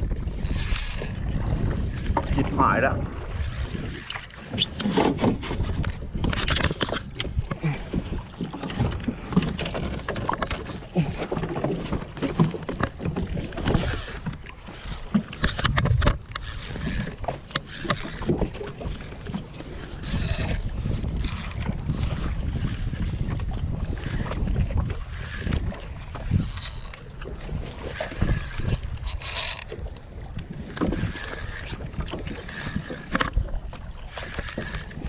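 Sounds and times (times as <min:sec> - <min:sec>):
rumble of wind and water: 0:00.0 - 0:35.0.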